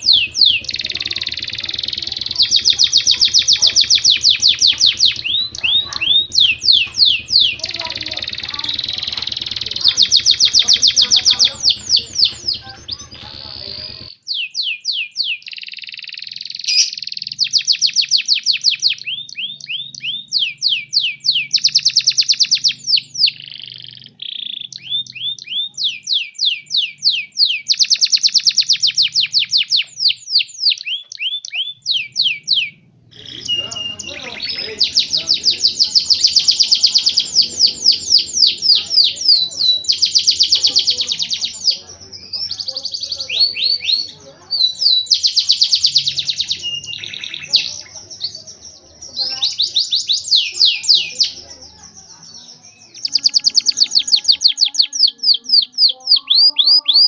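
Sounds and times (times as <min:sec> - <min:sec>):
canaries singing trills: 0:00.0 - 0:57.0.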